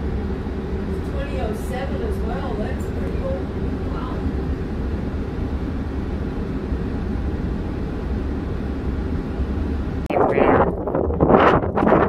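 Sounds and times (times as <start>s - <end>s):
vehicle cabin low rumble: 0.0s - 12.0s.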